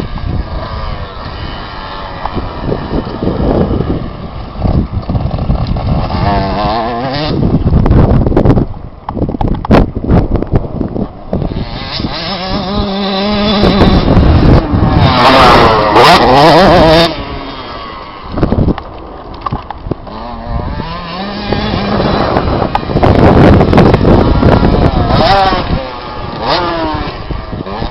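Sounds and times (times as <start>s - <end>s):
motocross bike engine revving: 0.0s - 8.1s, 11.3s - 27.9s.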